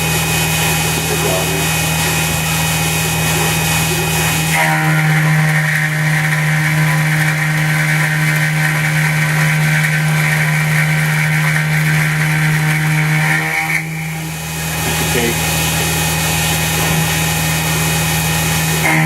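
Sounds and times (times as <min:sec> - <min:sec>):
high-pitched whine: 0:00.0 - 0:19.0
milling machine spindle hum: 0:00.0 - 0:19.0.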